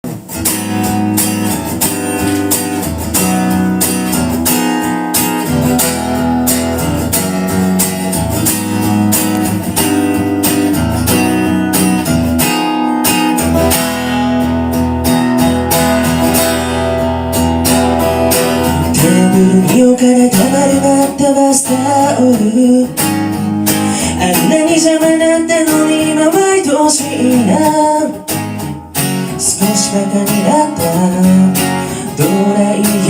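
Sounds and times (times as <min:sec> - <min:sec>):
acoustic guitar strummed chords: 0:00.0 - 0:33.0.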